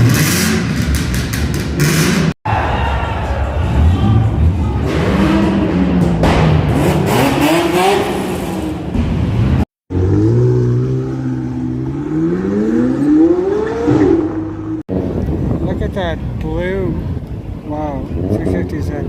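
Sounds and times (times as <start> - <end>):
sports car engines revving: 0.0 - 2.4, 3.6 - 19.0.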